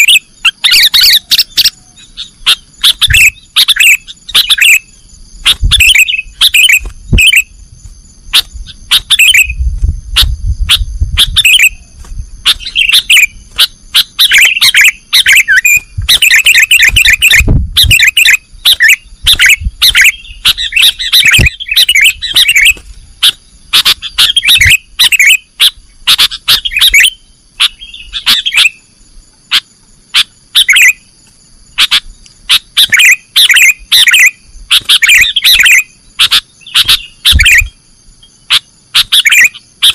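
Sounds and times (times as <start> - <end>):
bulbul chattering chirps: 0.0 - 39.9.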